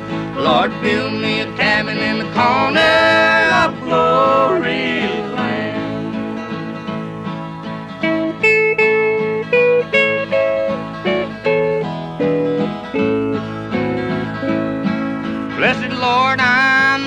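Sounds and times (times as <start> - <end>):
backing chords: 0.0 - 17.0
guitar lead melody: 0.0 - 17.0.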